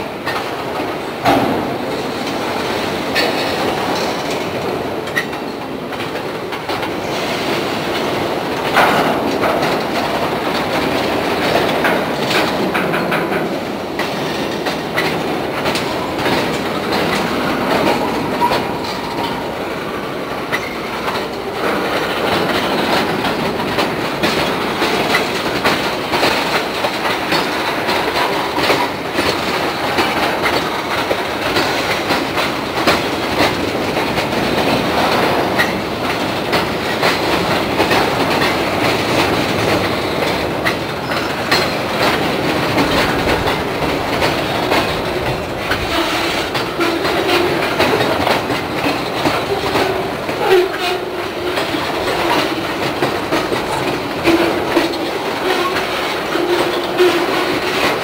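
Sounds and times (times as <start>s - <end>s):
freight cars rolling on rails: 0.0s - 58.0s
wheels clicking over rail joints: 0.0s - 58.0s.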